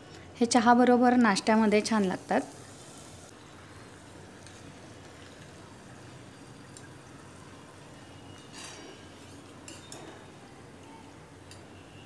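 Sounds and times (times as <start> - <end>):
dough sizzling in hot oil: 0.9 - 12.0.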